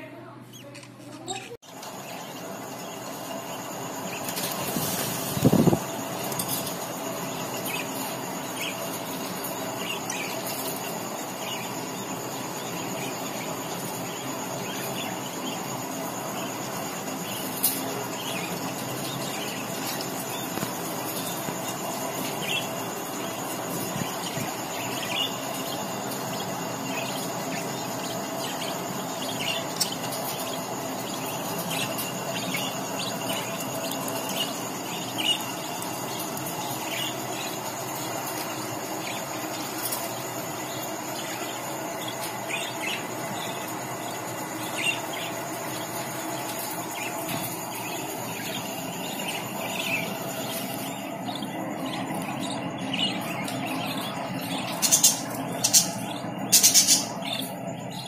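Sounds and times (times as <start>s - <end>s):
steady background noise: 0.0s - 58.0s
budgerigars chirping: 7.4s - 58.0s.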